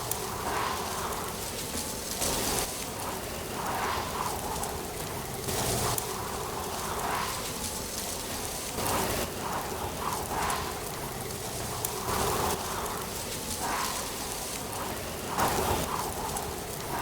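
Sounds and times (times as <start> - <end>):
wind rustling leaves: 0.0 - 17.0.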